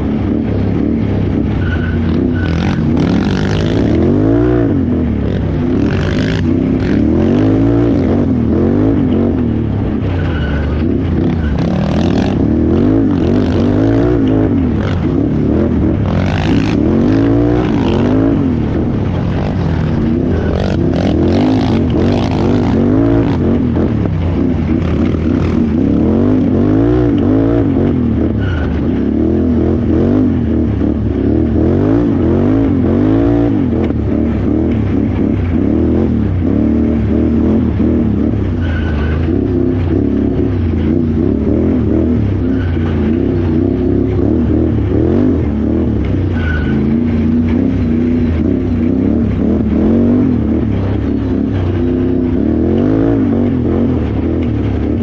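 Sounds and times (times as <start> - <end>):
engine revving under load: 0.0 - 55.0.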